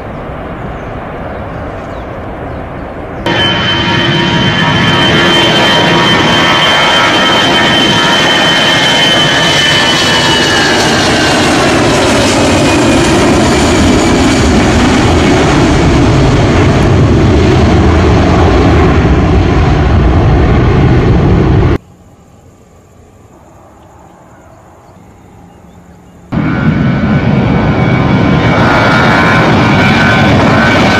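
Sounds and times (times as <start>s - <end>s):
jet engines roaring: 0.0s - 21.8s, 23.6s - 30.9s.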